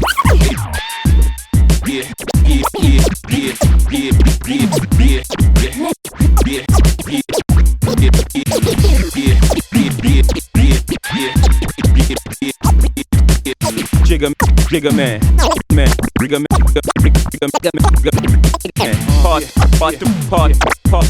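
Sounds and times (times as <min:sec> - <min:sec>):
turntable scratching: 0:00.0 - 0:00.9, 0:01.8 - 0:21.0
hip hop beat kick drum: 0:00.0 - 0:21.0.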